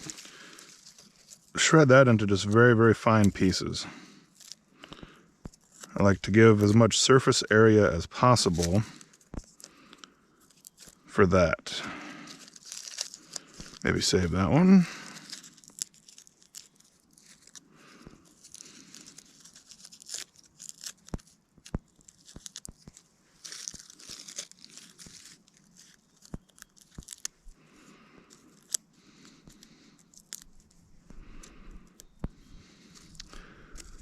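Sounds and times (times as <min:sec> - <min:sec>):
bark tearing and rustling: 0:00.0 - 0:01.6, 0:02.5 - 0:06.7, 0:10.4 - 0:11.1, 0:12.0 - 0:34.0.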